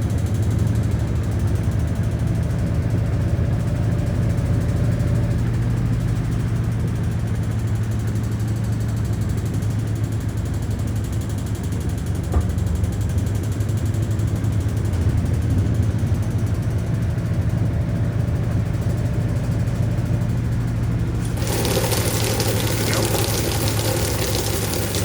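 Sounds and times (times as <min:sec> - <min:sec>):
washing machine spin hum: 0:00.0 - 0:25.0.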